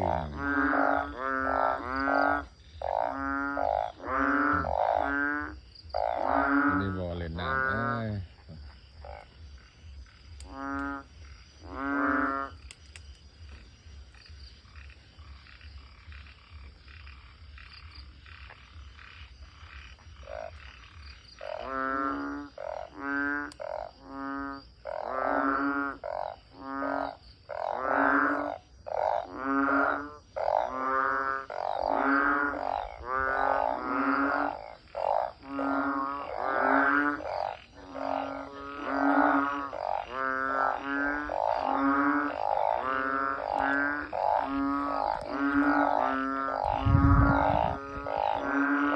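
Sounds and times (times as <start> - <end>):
frogs croaking: 0.0 - 48.9.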